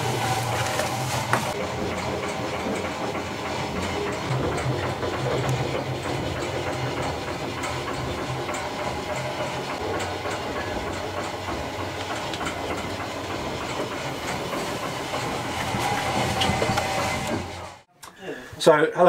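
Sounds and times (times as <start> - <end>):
rapid mechanical clatter: 0.0 - 17.9
steam engine hiss and hum: 0.0 - 17.9.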